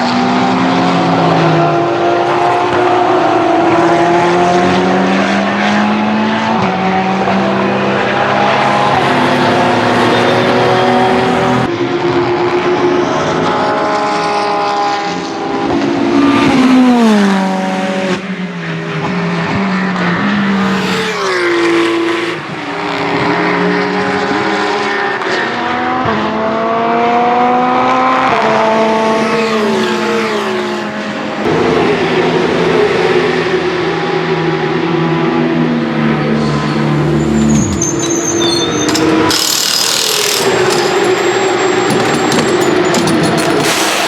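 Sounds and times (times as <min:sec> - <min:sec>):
race car engine downshifting: 0:00.0 - 0:44.0.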